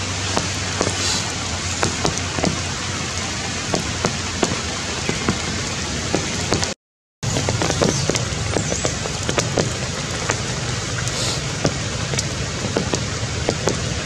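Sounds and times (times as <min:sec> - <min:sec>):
raindrops striking close by: 0:00.0 - 0:14.0
steady rain hiss: 0:00.0 - 0:14.0.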